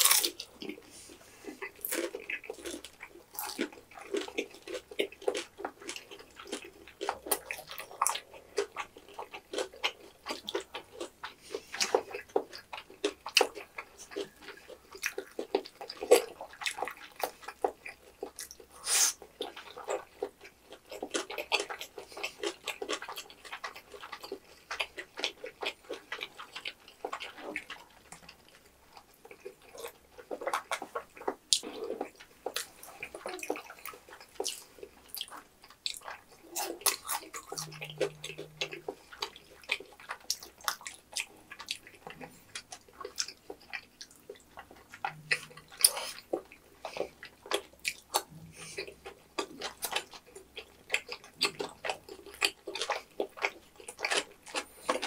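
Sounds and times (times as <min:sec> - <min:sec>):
wet chewing and smacking: 0:00.0 - 0:55.0.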